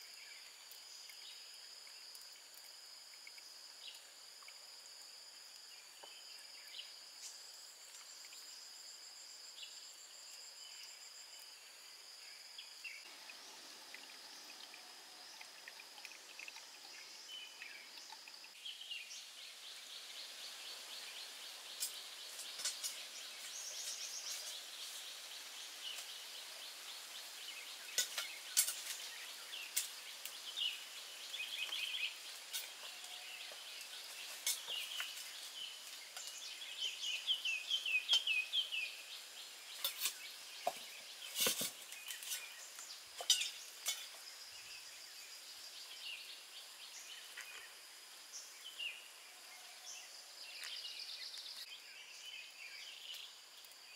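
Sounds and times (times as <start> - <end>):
high insect drone: 0.0 - 53.9
small birds chirping: 5.6 - 53.9.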